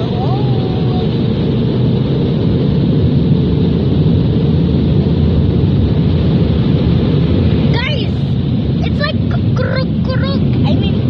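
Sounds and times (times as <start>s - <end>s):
car wash blowers rushing air: 0.0s - 11.0s.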